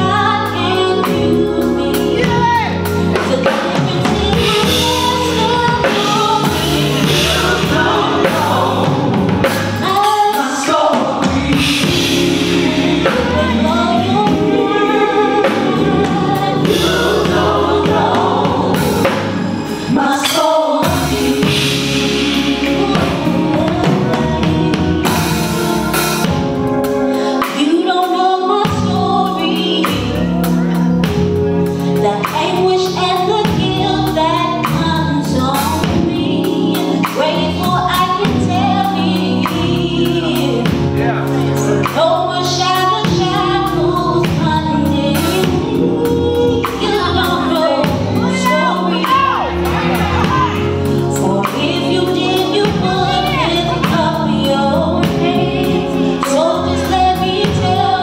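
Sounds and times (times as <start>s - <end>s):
woman singing into microphone: 0.0s - 26.3s, 27.0s - 30.7s, 31.8s - 58.0s
musical accompaniment: 0.0s - 58.0s.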